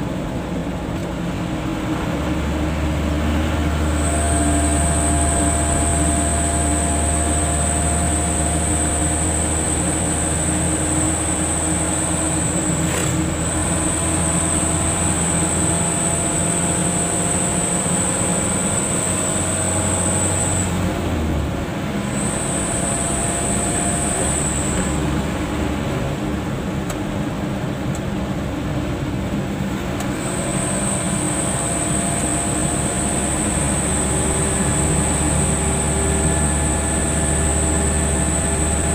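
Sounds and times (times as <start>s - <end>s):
car engine and road rumble: 0.0s - 38.9s
high whine: 1.6s - 27.8s, 29.3s - 38.9s.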